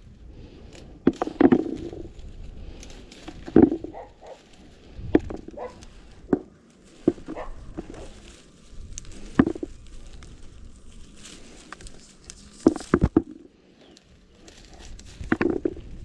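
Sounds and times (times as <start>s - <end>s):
olive branches rustling: 0.0s - 16.0s.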